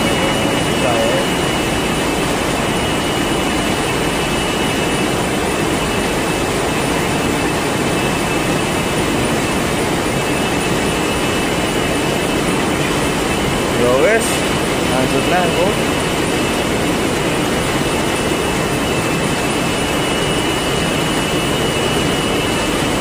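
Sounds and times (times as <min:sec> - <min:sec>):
high whine: 0:00.0 - 0:23.0
loud machine noise: 0:00.0 - 0:23.0.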